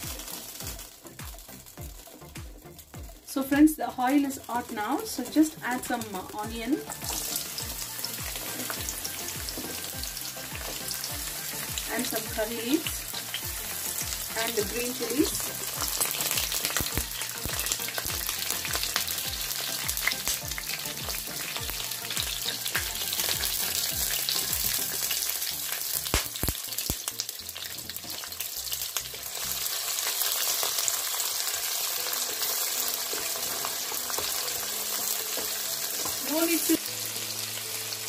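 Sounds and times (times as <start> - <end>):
food sizzling in hot oil: 0.0 - 38.0
oil crackling and popping: 0.0 - 38.0.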